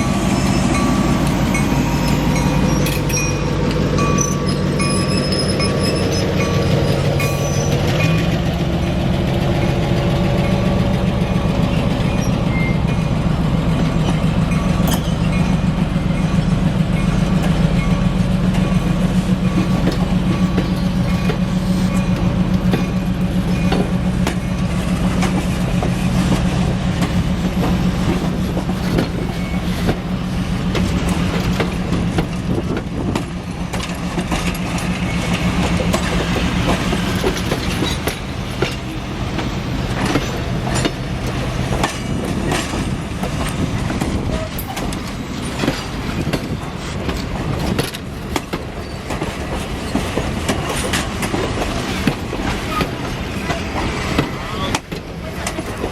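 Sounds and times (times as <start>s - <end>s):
train wheels clicking over rail joints: 0.0s - 55.9s.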